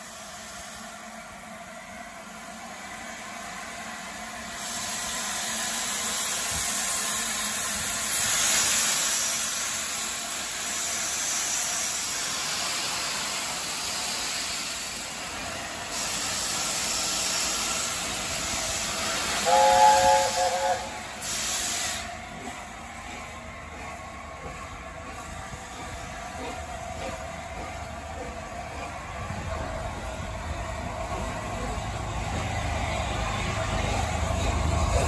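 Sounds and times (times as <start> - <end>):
steam locomotive hissing steam: 0.0 - 35.0.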